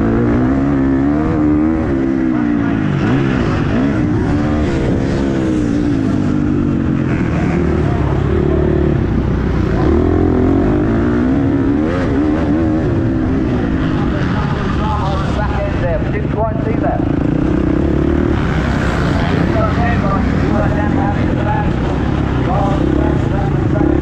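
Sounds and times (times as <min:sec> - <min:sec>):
motorbike engine racing: 0:00.0 - 0:24.0.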